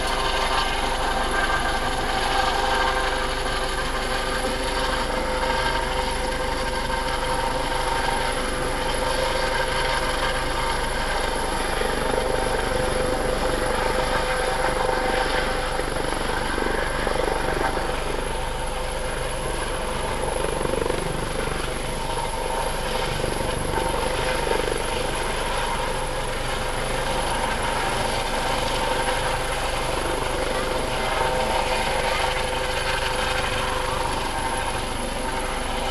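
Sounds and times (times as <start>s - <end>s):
helicopter rotor drone: 0.0s - 35.9s
high turbine whine: 0.0s - 35.9s.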